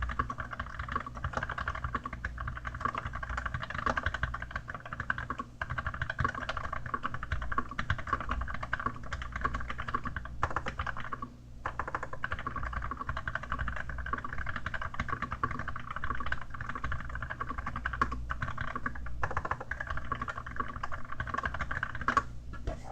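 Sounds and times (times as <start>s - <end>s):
mechanical keyboard typing: 0.0s - 22.3s.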